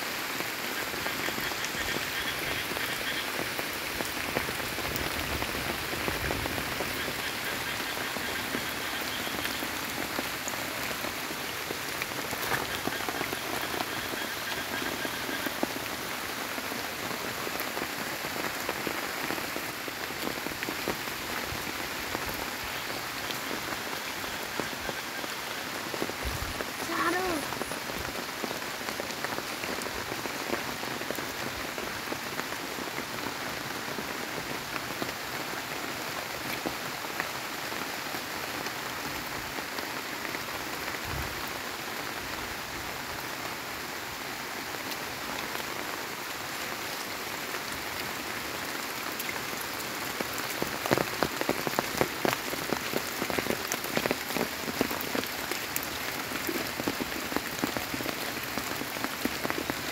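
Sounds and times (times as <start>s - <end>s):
steady rain on leaves: 0.0s - 59.9s
large raindrops tapping: 0.1s - 42.3s, 44.5s - 59.9s.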